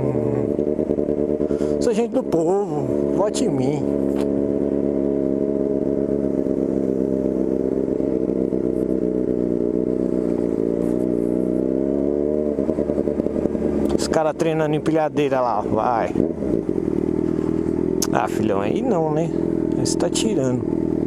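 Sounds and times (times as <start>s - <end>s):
motorcycle engine running steadily: 0.0s - 21.0s.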